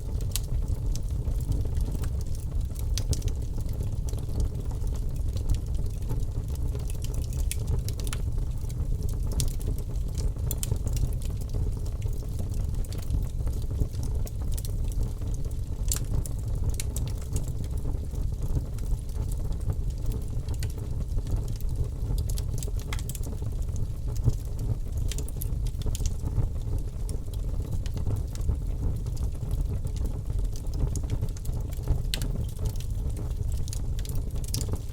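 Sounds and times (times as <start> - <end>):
fire crackles and pops: 0.0 - 34.9
fire rumbling: 0.0 - 34.9.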